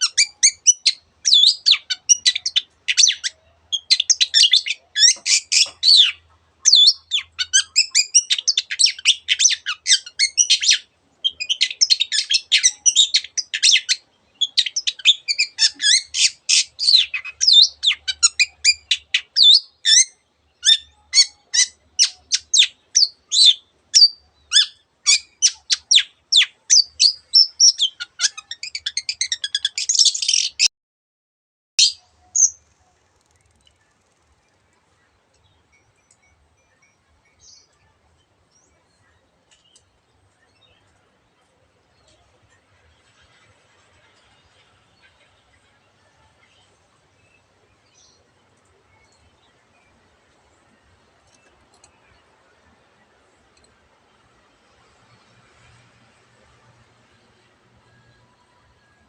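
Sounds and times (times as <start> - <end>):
bird singing varied song: 0.0 - 30.7, 31.8 - 55.3.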